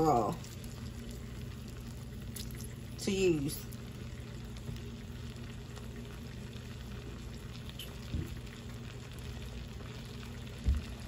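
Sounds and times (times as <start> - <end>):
soft sizzle in a skillet: 0.0 - 11.0.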